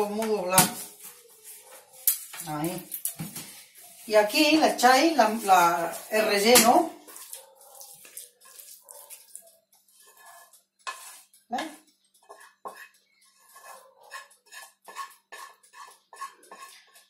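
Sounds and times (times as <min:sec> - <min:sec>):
spoon scraping metal pan: 0:00.0 - 0:17.0.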